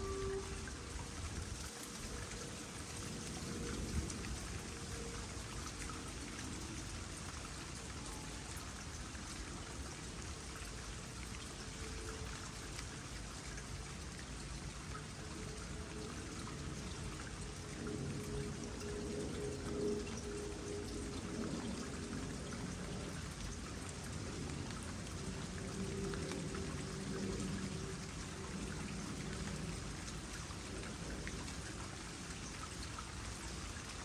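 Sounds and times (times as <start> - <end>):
light rain pattering: 0.0 - 34.0
water trickling into pond: 0.0 - 34.0.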